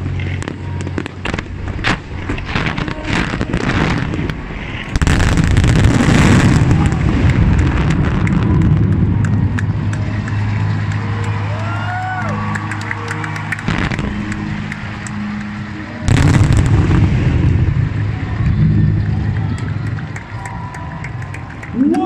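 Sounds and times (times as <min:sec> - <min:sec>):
fireworks bangs and crackling bursts: 0:00.0 - 0:11.4, 0:13.4 - 0:21.7.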